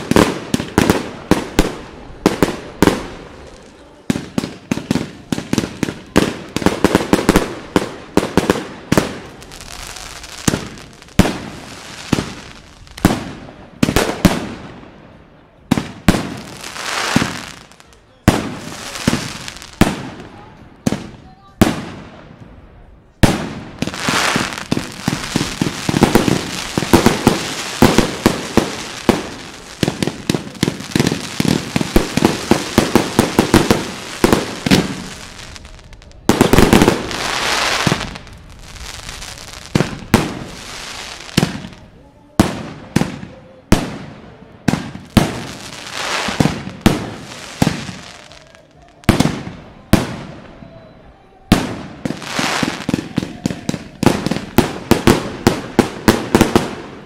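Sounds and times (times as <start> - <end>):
fireworks shots launching and bursting: 0.0 - 15.1, 15.7 - 22.5, 23.1 - 50.5, 51.5 - 57.0
fireworks crackling: 0.0 - 57.0.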